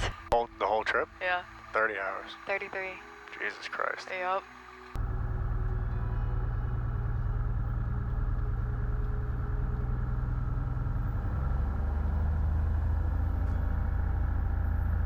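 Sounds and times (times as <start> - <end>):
small plane engine running: 0.0 - 15.0.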